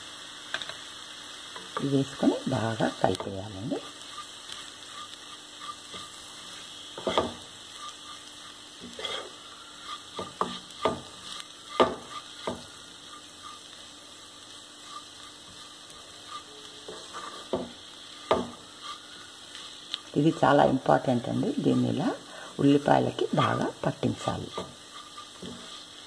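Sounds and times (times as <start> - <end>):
masala sizzling in a pan: 0.0 - 26.0
utensil scraping against a pan: 3.6 - 26.0.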